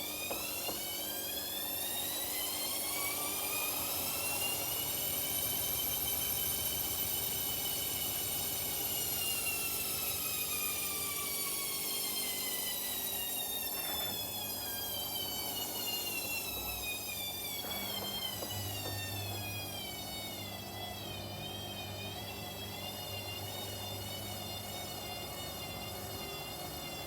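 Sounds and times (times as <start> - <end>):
washing machine spinning down: 0.0 - 27.0.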